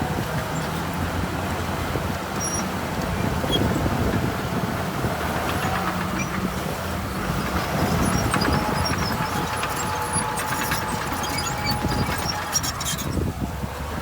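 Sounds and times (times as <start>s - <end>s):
diesel machinery engine rumble: 0.0s - 14.0s.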